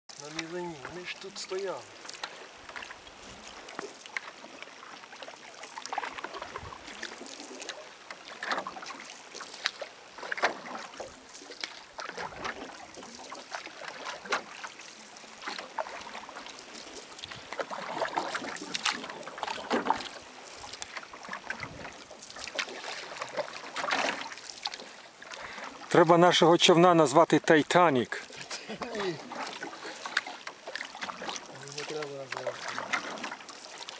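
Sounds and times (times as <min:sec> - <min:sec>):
canoe paddle dipping in water: 0:00.1 - 0:33.9
water splashes and drips: 0:00.1 - 0:33.9.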